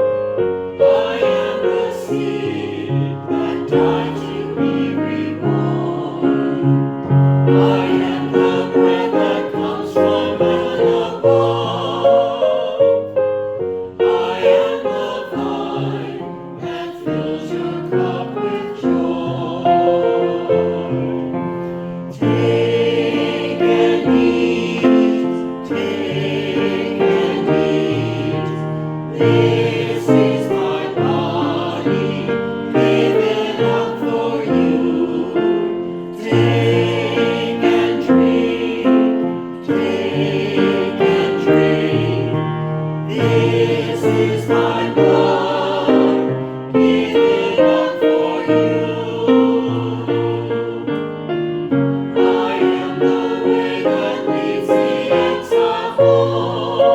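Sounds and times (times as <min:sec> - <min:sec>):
choir singing: 0:00.0 - 0:56.9.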